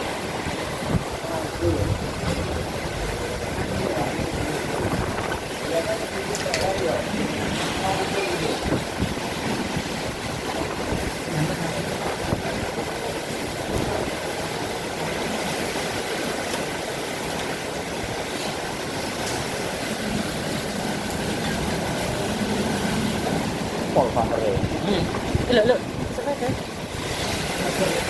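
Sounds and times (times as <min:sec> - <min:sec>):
heavy rain in strong wind: 0:00.0 - 0:28.0.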